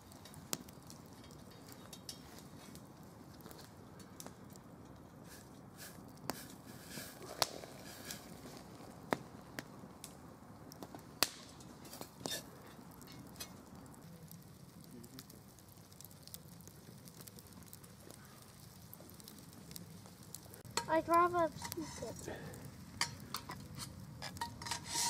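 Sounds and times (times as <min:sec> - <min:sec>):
campfire crackling: 0:00.0 - 0:25.0
sharp fire pops: 0:00.0 - 0:25.0.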